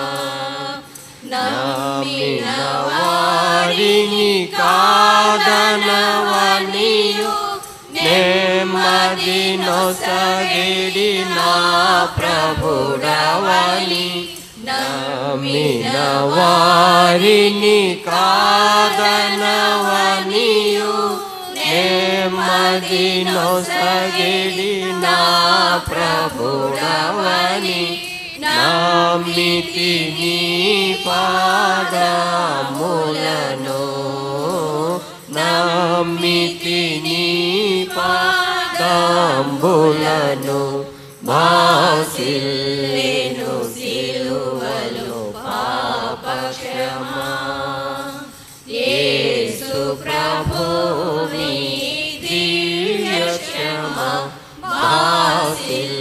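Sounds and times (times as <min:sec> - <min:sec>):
women singing a hymn: 0:00.0 - 0:56.0.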